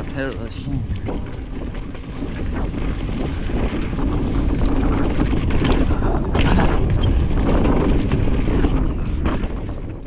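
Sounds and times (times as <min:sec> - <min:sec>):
bike knocks and rattles: 0:00.0 - 0:10.0
bike tires rolling on dirt trail: 0:00.0 - 0:10.0
wind buffeting microphone: 0:00.0 - 0:10.0.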